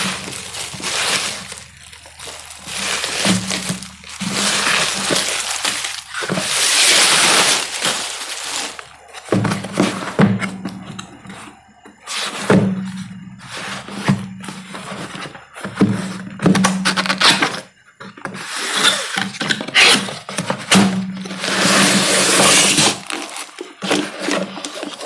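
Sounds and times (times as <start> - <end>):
cardboard scraping and rustling: 0.0 - 25.0.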